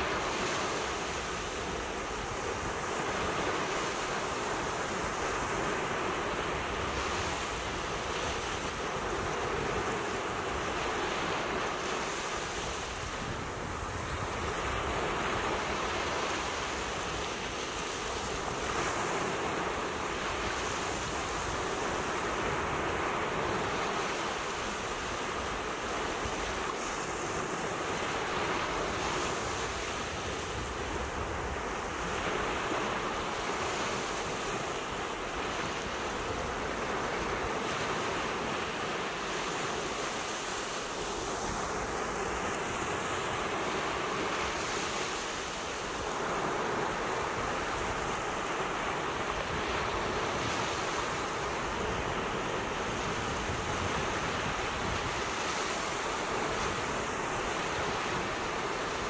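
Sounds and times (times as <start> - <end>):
waves breaking on shore: 0.0 - 59.0.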